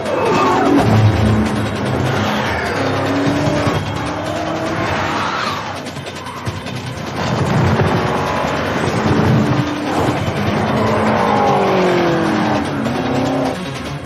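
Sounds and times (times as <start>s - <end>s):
car engines revving: 0.0s - 14.0s
tyre and road noise: 0.0s - 14.0s.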